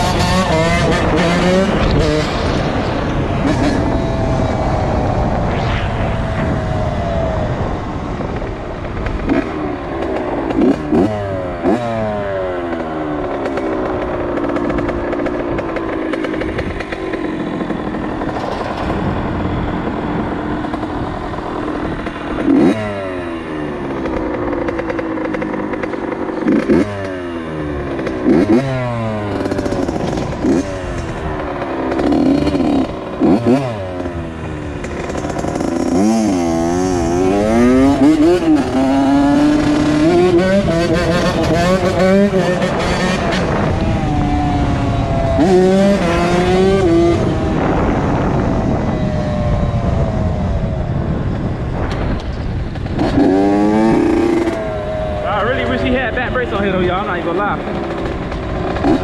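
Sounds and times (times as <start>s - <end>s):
two-stroke motorbike engine revving: 0.0s - 5.1s, 7.7s - 59.0s.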